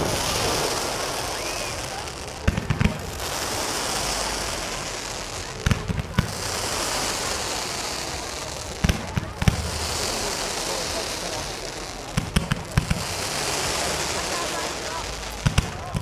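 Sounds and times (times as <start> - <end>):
fireworks crackling hiss: 0.0 - 16.0
fireworks sharp bangs: 0.0 - 16.0.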